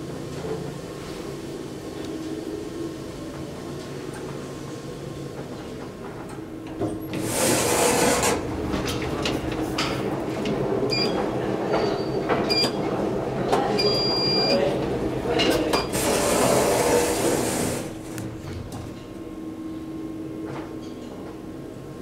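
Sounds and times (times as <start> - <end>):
elevator low hum: 0.0 - 22.0.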